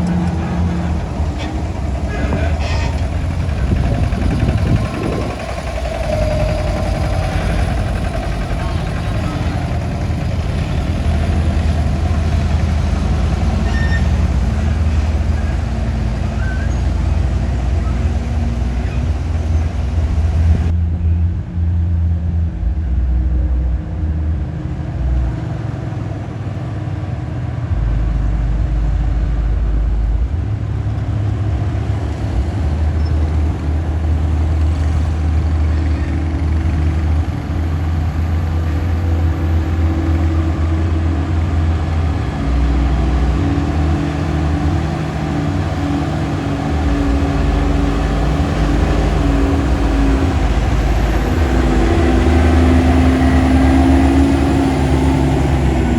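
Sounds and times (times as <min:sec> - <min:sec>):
diesel truck engine rumbling: 0:00.0 - 0:55.9.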